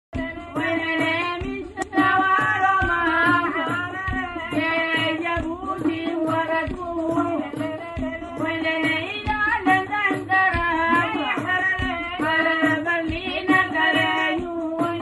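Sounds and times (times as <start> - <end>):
frame drum beat: 0.2 - 15.0
women singing: 0.2 - 15.0.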